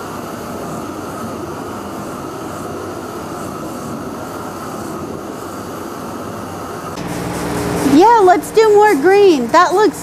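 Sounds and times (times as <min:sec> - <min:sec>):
workshop equipment hissing: 0:00.0 - 0:10.0.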